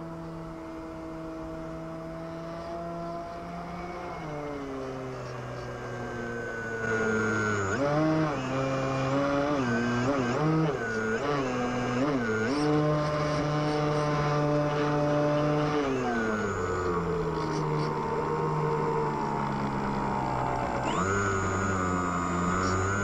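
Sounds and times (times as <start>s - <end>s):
model plane electric motor: 0.0s - 23.0s.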